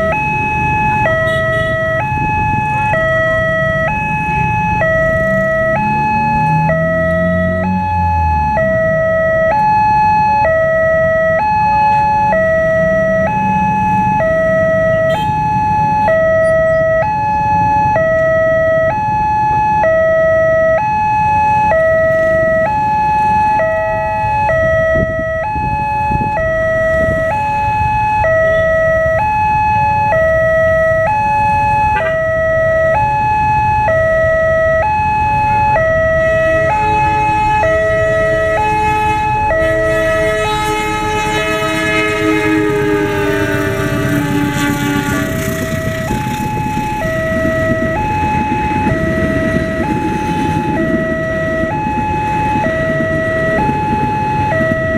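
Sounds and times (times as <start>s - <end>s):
two-tone level-crossing alarm: 0.0s - 54.9s.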